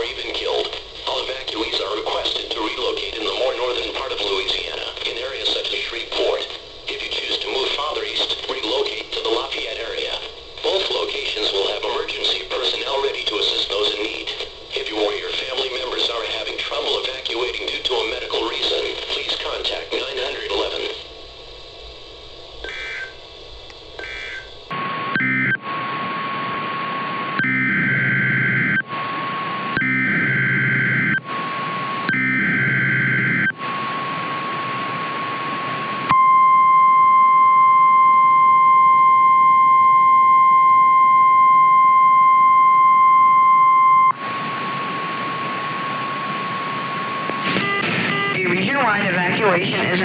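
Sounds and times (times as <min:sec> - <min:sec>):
radio static: 0:00.0 - 0:21.1, 0:22.6 - 0:23.3, 0:24.0 - 0:36.4, 0:40.6 - 0:50.0.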